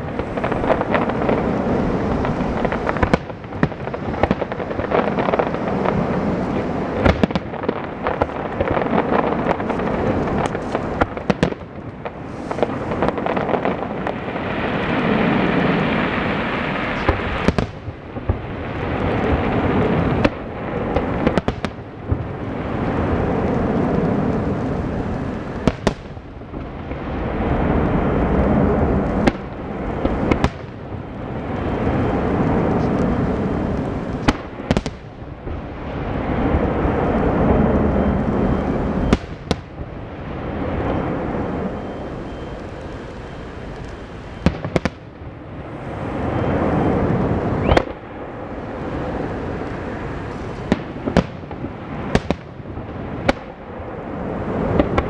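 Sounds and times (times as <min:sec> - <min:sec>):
firework bangs and cracks: 0:00.0 - 0:55.0
rolling firework rumble: 0:00.0 - 0:55.0.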